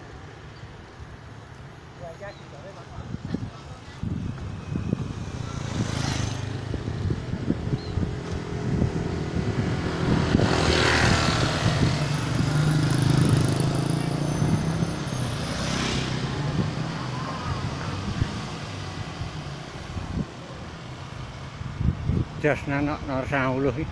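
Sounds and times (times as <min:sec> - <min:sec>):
wind over microphone: 0:02.7 - 0:23.9.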